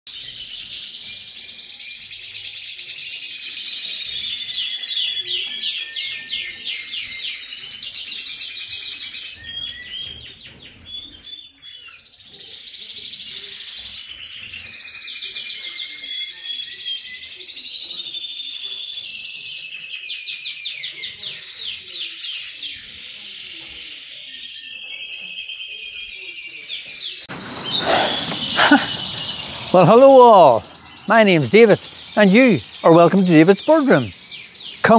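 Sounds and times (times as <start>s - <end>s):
finches singing and twittering: 0.1s - 34.9s.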